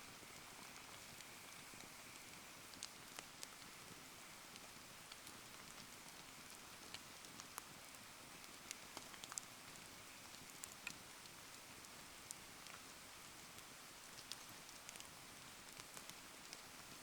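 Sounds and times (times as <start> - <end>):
bonfire crackling: 0.1 - 17.0.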